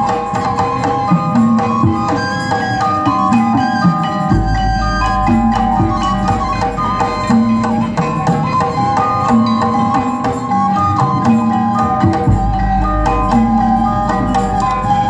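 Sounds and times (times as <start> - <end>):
ringing tuned metal notes: 0.0 - 15.0.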